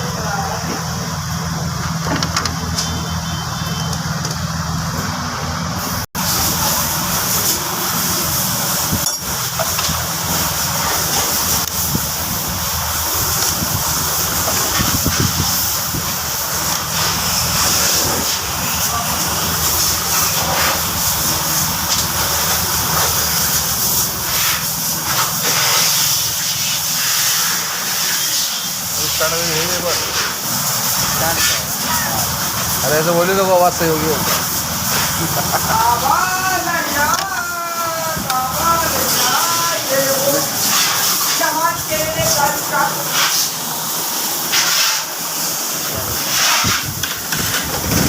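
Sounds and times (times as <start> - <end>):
constant hiss: 0.0 - 48.0.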